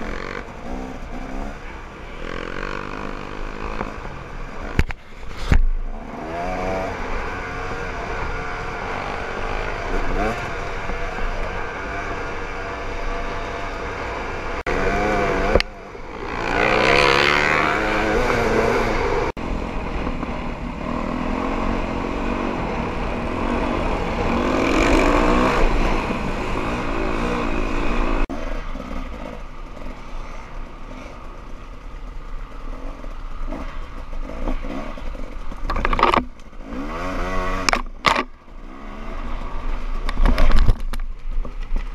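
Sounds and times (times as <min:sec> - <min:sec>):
dirt bike engine revving: 0:00.0 - 0:04.8, 0:05.8 - 0:31.8, 0:32.5 - 0:40.0.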